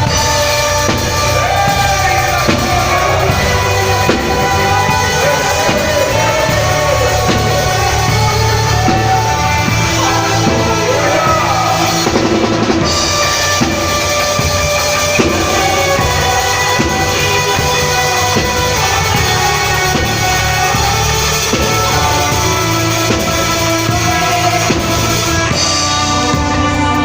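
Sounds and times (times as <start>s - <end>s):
kick and snare drum beat: 0.0s - 25.2s
band playing music: 0.0s - 27.0s.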